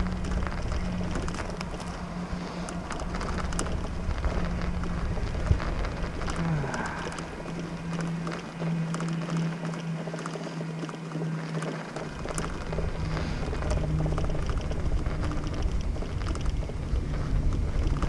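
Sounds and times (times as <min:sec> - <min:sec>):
bicycle riding hum: 0:00.0 - 0:18.0
small clicks: 0:00.0 - 0:18.0
wind buffeting microphone: 0:00.0 - 0:18.0.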